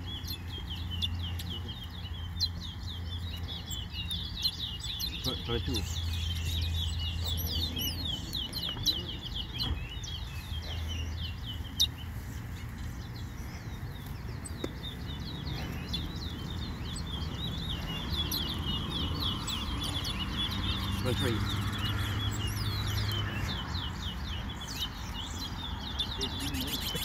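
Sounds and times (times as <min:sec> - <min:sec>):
finches chirping: 0:00.0 - 0:27.0.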